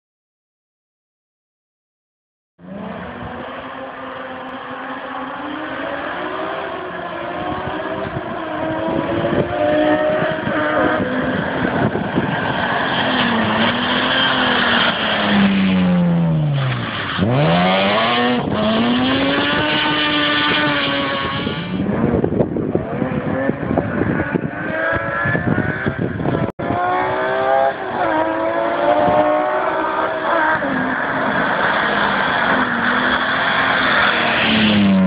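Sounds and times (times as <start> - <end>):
rally car engine revving: 2.6 - 35.0.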